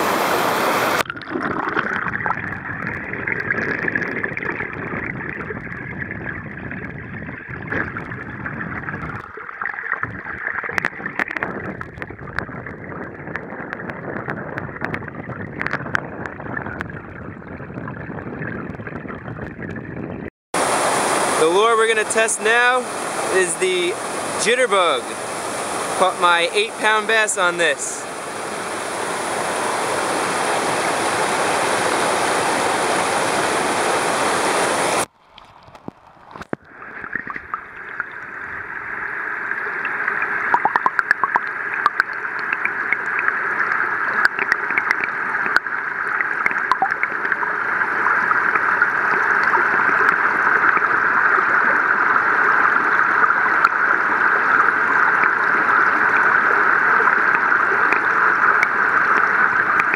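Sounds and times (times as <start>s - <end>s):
rushing water: 0.0s - 19.6s, 20.6s - 59.9s.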